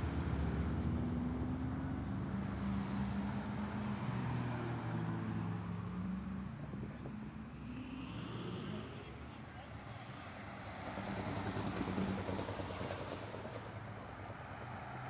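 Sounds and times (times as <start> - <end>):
cars rolling slowly past: 0.0 - 15.0.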